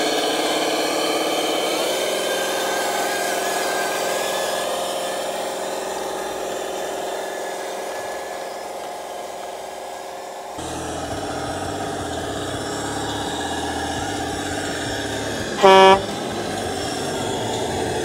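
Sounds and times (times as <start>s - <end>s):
toy truck motor running: 0.0s - 18.0s.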